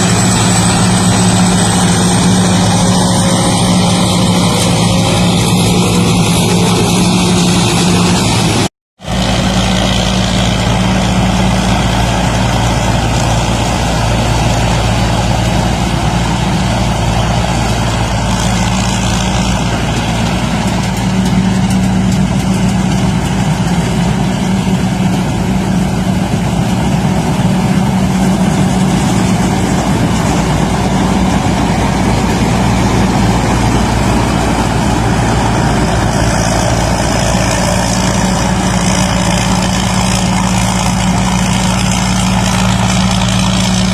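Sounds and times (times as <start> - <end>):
combine harvester engine drone: 0.0 - 43.9
mechanical rush: 0.0 - 43.9.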